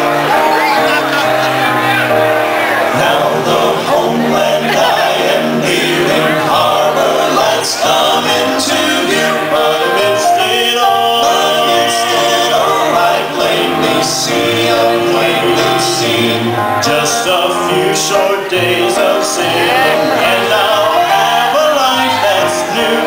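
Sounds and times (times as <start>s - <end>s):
women singing gospel song: 2.9s - 23.0s.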